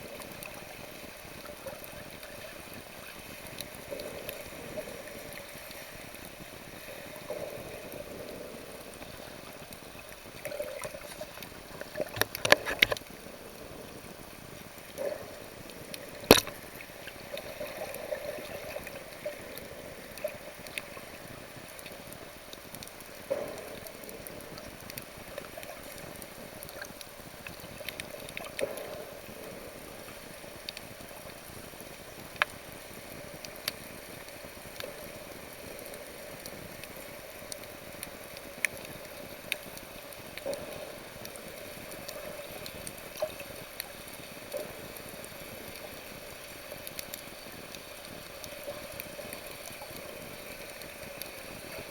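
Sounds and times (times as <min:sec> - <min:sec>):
water sloshing and gurgling: 0:00.0 - 0:51.9.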